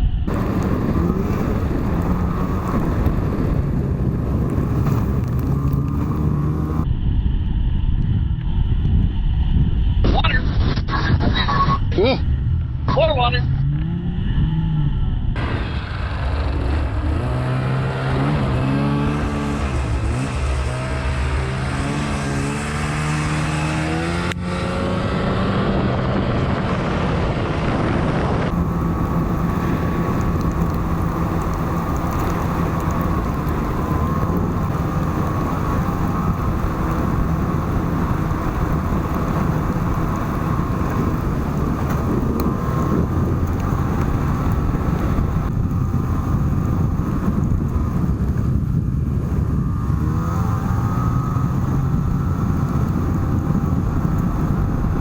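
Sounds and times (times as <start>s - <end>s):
snowmobile engine: 0.0s - 7.8s, 10.1s - 55.0s
rushing noise: 0.0s - 48.3s.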